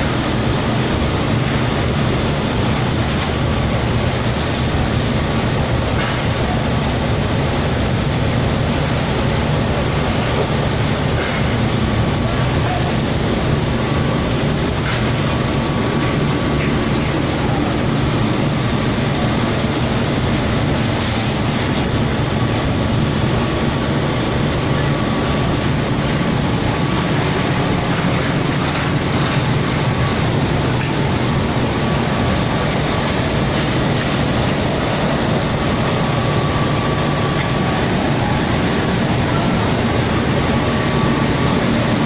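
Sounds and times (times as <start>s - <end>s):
machinery rumbling: 0.0s - 42.0s.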